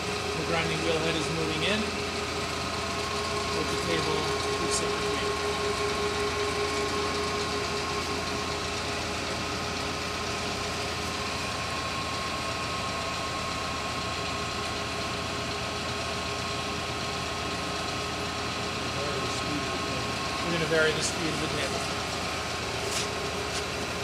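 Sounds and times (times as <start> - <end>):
grinding machine hum: 0.0 - 24.0.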